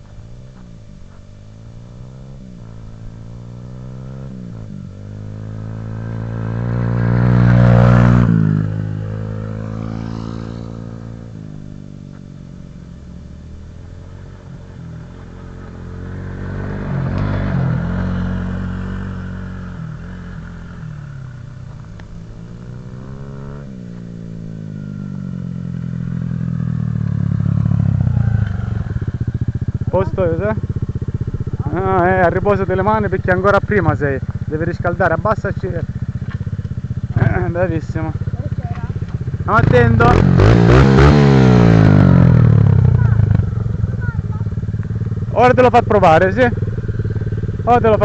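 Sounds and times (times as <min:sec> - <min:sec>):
off-road vehicle engine revving past: 0:00.3 - 0:11.9, 0:13.6 - 0:48.0.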